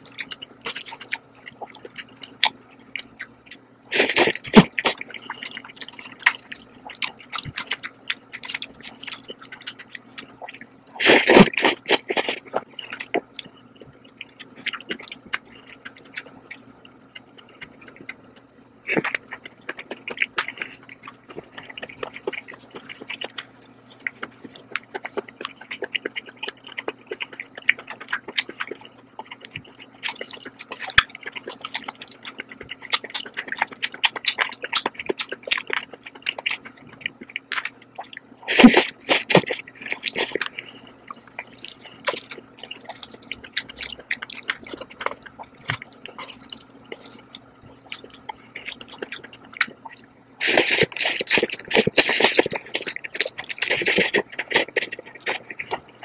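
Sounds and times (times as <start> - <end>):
faint steady hum: 0.0 - 56.0
wet chewing and smacking: 0.0 - 56.0.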